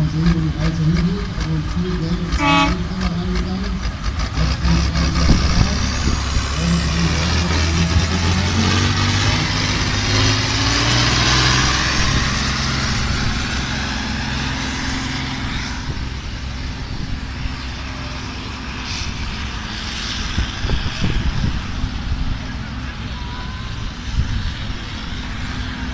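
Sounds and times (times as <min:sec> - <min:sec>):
tractor diesel engine under load: 0:00.0 - 0:25.9.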